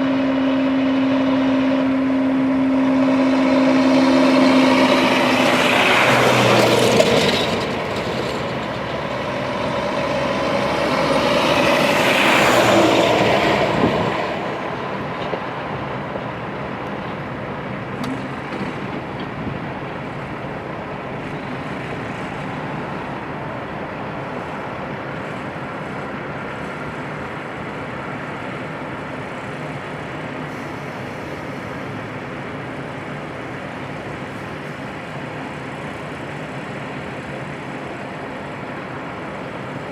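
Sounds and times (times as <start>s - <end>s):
heavy truck engines rumbling: 0.0s - 39.9s.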